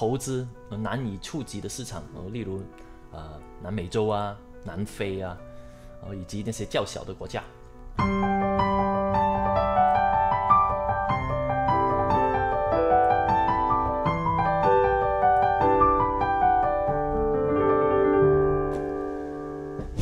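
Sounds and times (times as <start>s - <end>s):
grand piano melody: 0.0s - 20.0s.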